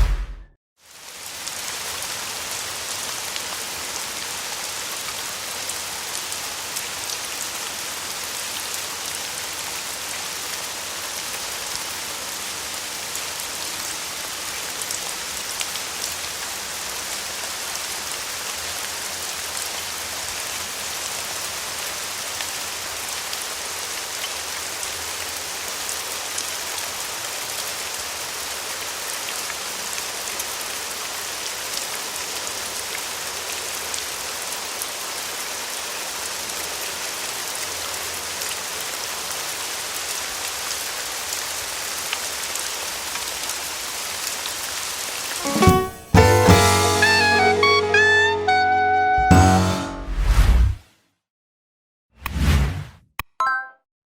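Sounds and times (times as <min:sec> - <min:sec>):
heavy rain: 0:00.8 - 0:49.6.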